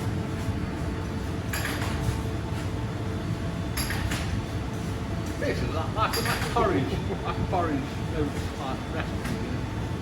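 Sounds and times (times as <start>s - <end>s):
factory machinery humming: 0.0s - 10.0s.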